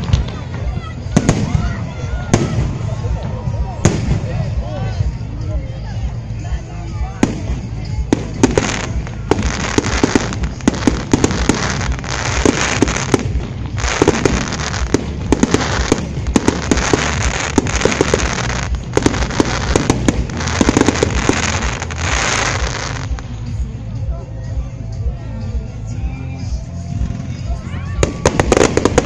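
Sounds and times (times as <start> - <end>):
fireworks crackling: 0.0 - 5.1, 7.0 - 23.6, 27.2 - 29.0.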